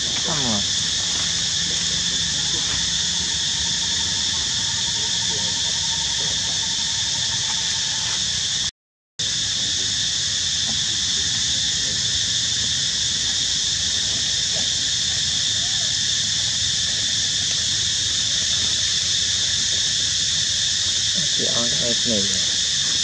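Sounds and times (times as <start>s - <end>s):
insect chorus droning: 0.0s - 23.0s.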